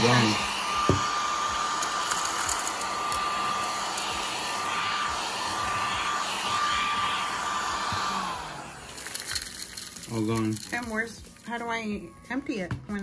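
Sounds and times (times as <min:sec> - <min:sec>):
mini vacuum whining: 0:00.0 - 0:10.9.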